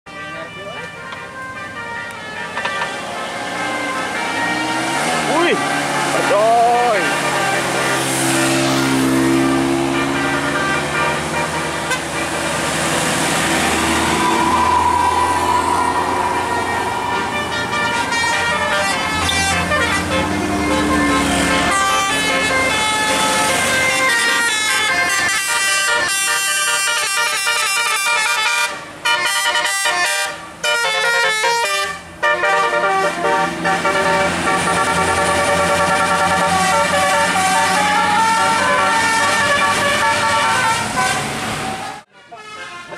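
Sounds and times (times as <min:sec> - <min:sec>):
engine and road noise: 0:00.1 - 0:42.9
musical bus air horn: 0:00.1 - 0:42.9.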